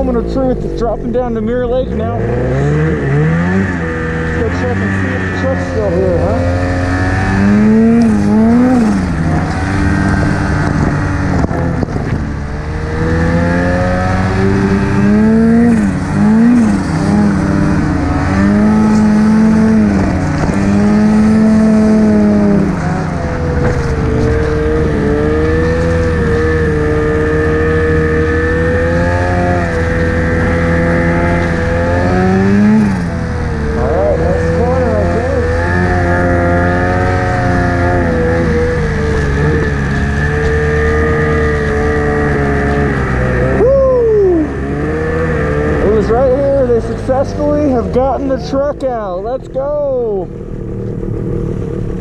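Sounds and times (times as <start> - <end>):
snowmobile engine revving: 0.0 - 52.0.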